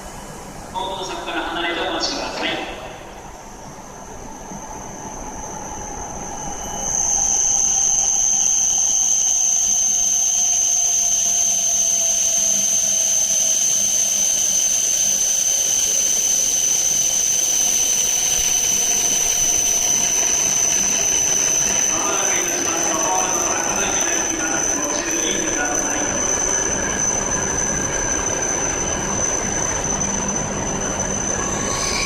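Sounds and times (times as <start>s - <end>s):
train motor whine: 3.0s - 32.0s
high-pitched brake squeal: 4.5s - 32.0s.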